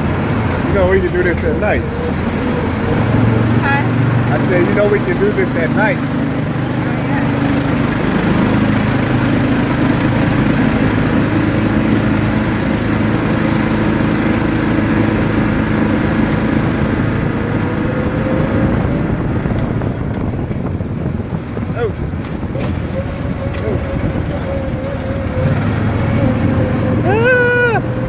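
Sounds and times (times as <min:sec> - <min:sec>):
atv engine droning: 0:00.0 - 0:28.0.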